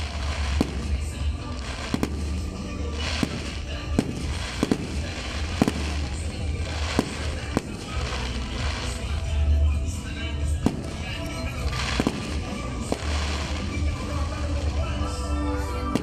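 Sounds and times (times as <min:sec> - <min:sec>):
firework shells bursting: 0:00.0 - 0:09.4, 0:10.6 - 0:14.8.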